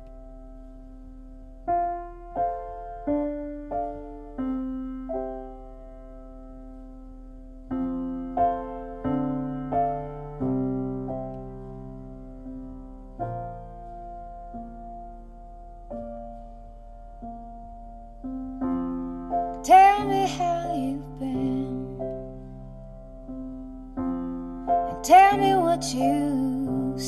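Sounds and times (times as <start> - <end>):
piano through car speakers: 0.0 - 27.0.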